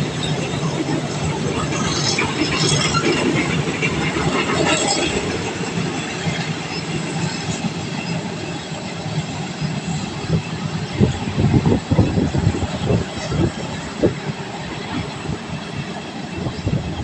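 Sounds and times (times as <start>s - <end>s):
train rumbling on tracks: 0.0s - 17.0s.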